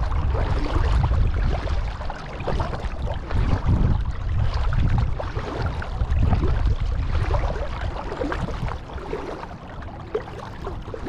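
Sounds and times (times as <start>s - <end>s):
water splashing and trickling: 0.0s - 11.0s
wind buffeting microphone: 0.0s - 11.0s.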